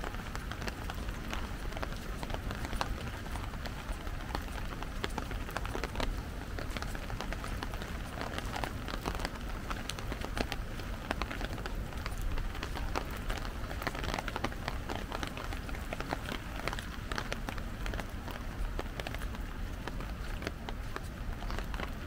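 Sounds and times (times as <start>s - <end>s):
rain falling: 0.0s - 22.0s
raindrops pattering on umbrella: 0.0s - 22.0s.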